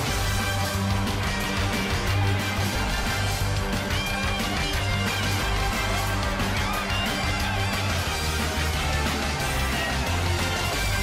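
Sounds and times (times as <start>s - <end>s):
rock theme music with guitar: 0.0s - 11.0s.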